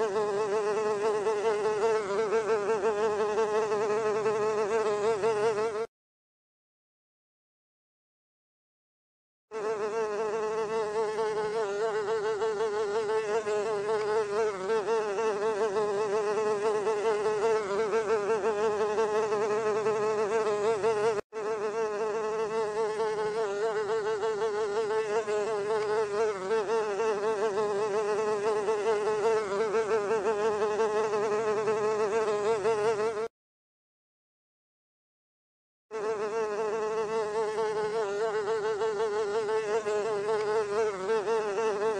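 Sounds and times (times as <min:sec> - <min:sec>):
housefly wings buzzing: 0:00.0 - 0:05.9, 0:09.5 - 0:33.3, 0:35.9 - 0:41.9.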